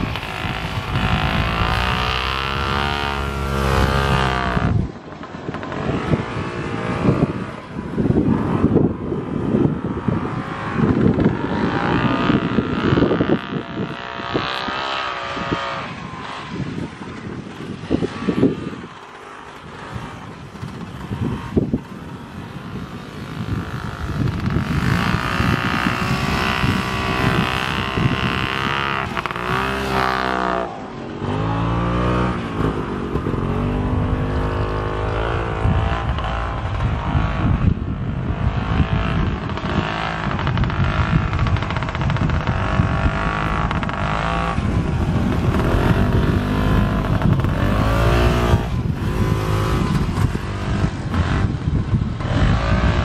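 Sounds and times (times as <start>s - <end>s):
snowmobile engine revving: 0.0s - 4.9s, 5.6s - 53.0s.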